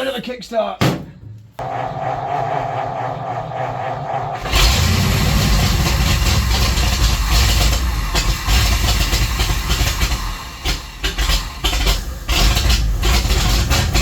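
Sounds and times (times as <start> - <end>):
engine running roughly: 1.6 - 14.0.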